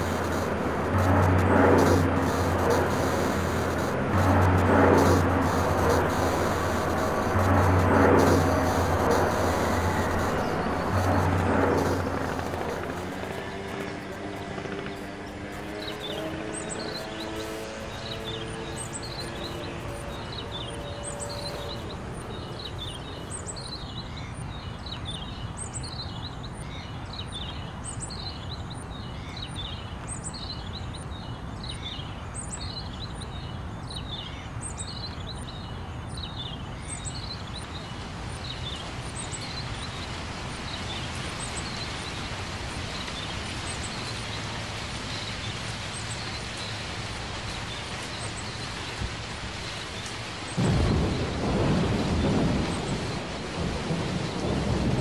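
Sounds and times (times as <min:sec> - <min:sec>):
rushing background noise: 0:00.0 - 0:55.0.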